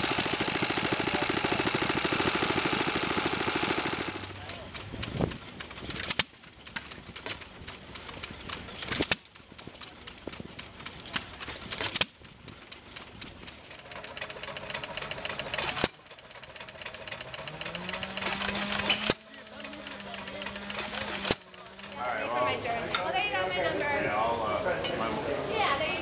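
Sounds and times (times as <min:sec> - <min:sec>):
antique engines clattering: 0:00.0 - 0:24.0.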